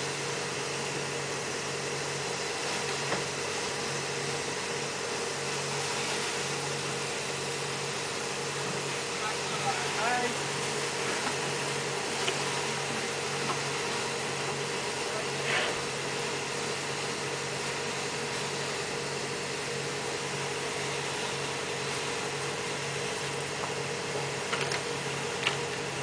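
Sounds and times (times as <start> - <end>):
machinery droning: 0.0 - 26.0.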